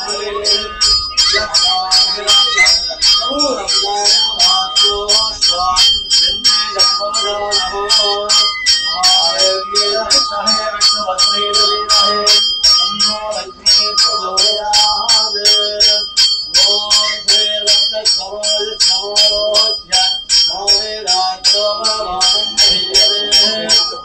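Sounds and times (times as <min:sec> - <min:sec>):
man chanting: 0:00.0 - 0:24.0
temple bell ringing rapidly: 0:00.0 - 0:24.0.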